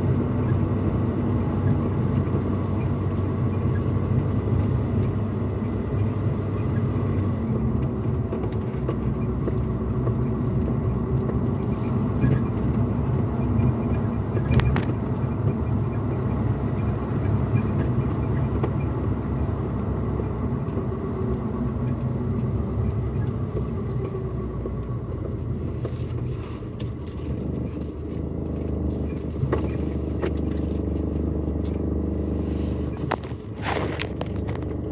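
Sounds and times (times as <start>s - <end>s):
engine and road rumble in truck cab: 0.0s - 34.9s.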